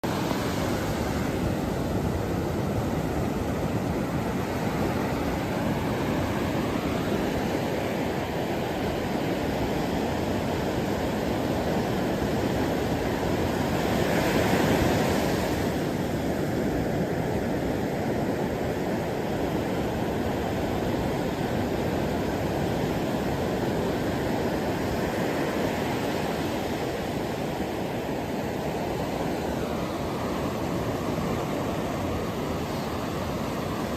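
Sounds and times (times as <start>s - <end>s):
waves on a beach: 0.0s - 33.9s.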